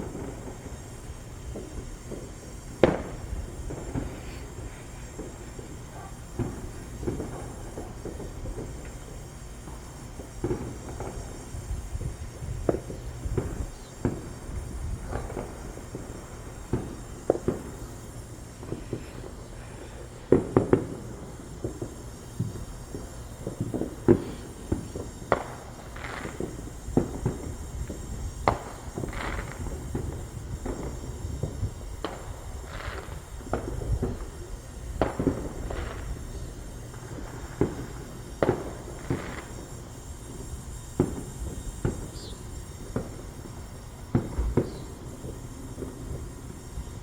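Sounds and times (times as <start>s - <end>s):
distant fireworks bangs: 0.0s - 47.0s.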